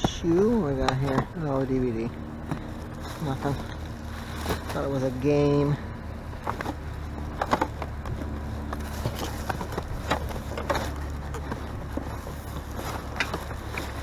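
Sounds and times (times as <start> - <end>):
low outdoor rumble: 0.0 - 14.0
plastic items being handled: 0.0 - 14.0.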